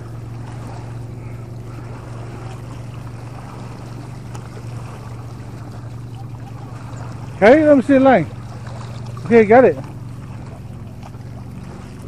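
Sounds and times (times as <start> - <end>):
small waves lapping on rocks: 0.0 - 12.0
steady low drone: 0.0 - 12.0.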